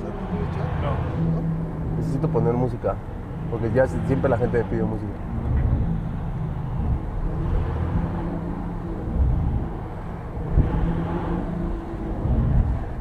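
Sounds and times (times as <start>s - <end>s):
car engine drone inside cabin: 0.0s - 13.0s.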